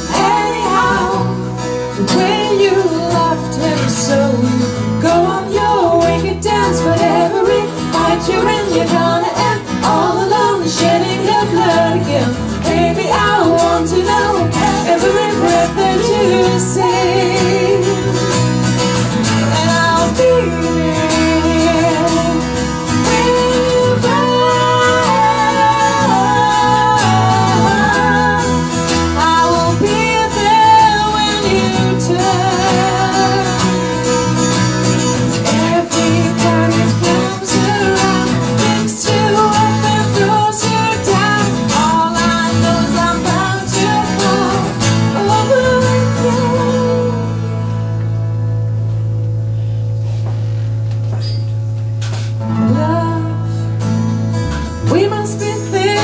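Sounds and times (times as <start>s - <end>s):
women singing with vibrato: 0.0s - 48.0s, 52.5s - 53.8s, 54.8s - 56.0s
electric bass guitar: 0.0s - 56.0s
strummed acoustic guitar: 0.0s - 56.0s.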